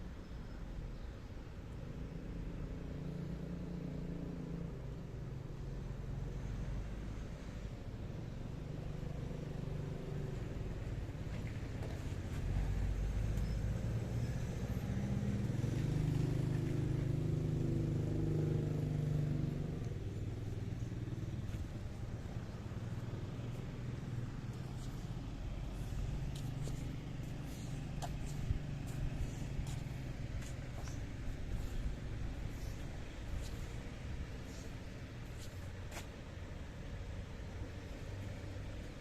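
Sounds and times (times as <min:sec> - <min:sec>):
traffic hum: 0:00.0 - 0:39.0.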